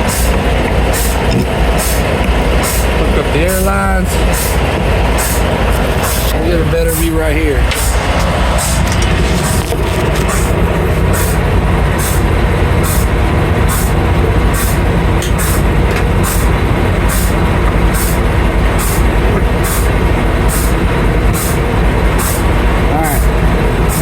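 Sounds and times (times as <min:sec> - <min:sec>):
diesel truck engine idling: 0:00.0 - 0:24.0
pulsing high hiss: 0:00.0 - 0:24.0.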